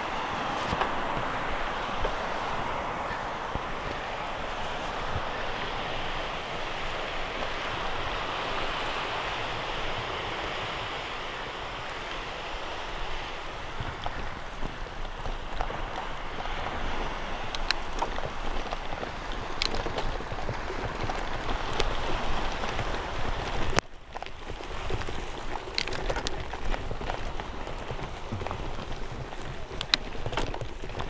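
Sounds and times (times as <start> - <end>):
bike tyres crunching over pebbles: 0.0 - 9.4, 11.4 - 31.0.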